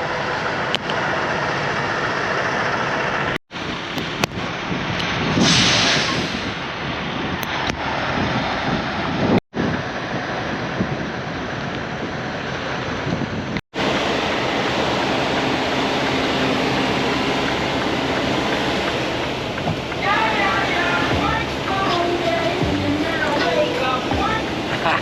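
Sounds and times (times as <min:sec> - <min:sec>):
wind and rain buffeting microphone: 0:03.6 - 0:25.0.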